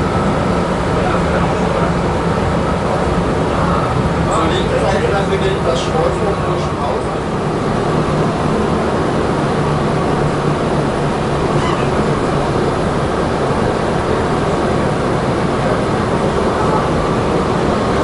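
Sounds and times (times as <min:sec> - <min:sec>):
tram running on track: 0:00.0 - 0:18.0.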